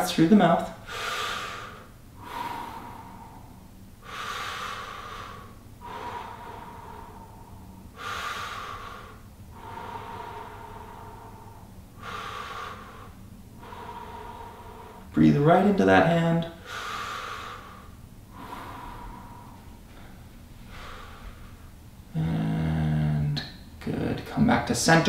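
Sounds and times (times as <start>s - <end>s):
man breathing deeply: 0.8s - 15.2s, 16.4s - 23.0s.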